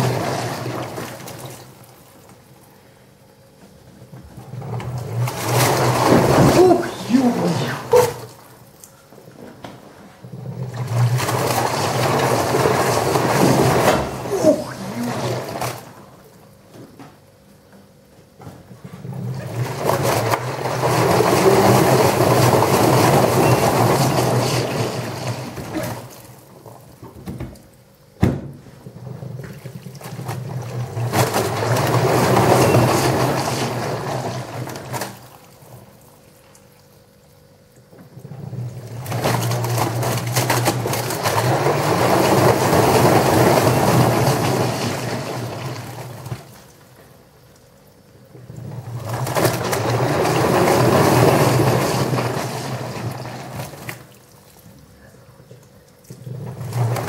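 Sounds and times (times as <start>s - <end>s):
water and clothes sloshing: 0.0s - 2.5s, 3.7s - 16.4s, 18.7s - 27.7s, 28.7s - 37.0s, 37.8s - 47.2s, 48.2s - 57.0s
washing machine motor hum: 0.0s - 57.0s.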